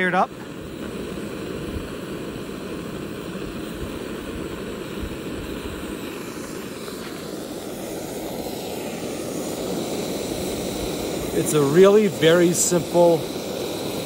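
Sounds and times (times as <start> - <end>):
gas stove burner hissing: 0.0 - 14.0.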